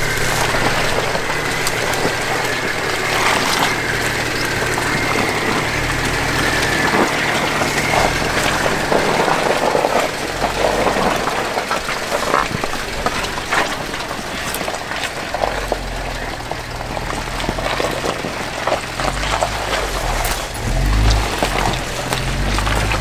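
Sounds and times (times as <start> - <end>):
car engine running low: 0.0 - 23.0.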